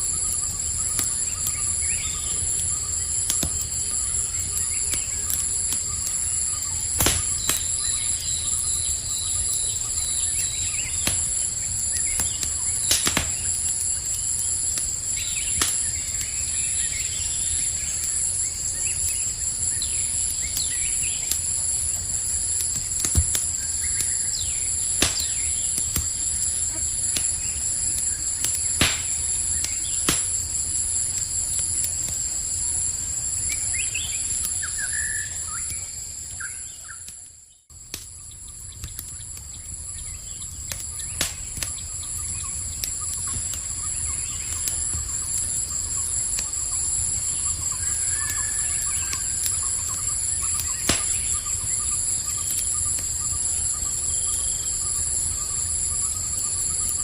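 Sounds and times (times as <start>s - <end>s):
campfire crackling and popping: 0.0s - 57.0s
night insects chirring: 0.0s - 57.0s.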